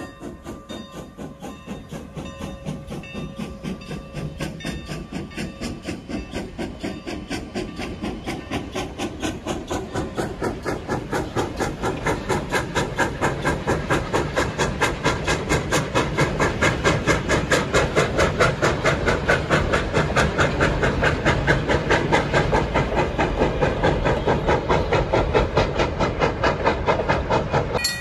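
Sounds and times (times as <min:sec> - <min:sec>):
passenger coaches rolling by: 0:00.0 - 0:28.0
steam locomotive chuffing: 0:00.0 - 0:28.0.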